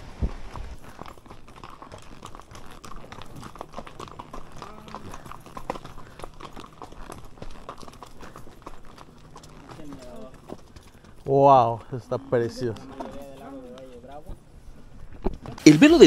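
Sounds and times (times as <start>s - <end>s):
horse hooves clopping on stony trail: 0.0s - 16.0s.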